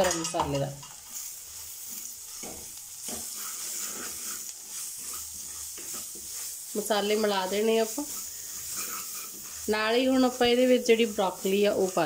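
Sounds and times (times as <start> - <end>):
onions sizzling in oil: 0.0 - 12.0
wooden spatula scraping pan: 0.0 - 12.0.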